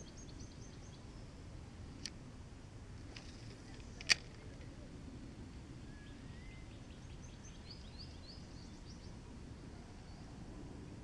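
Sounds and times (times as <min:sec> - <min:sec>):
songbird singing: 0:00.0 - 0:02.2, 0:03.0 - 0:11.0
low background rumble: 0:00.0 - 0:11.0.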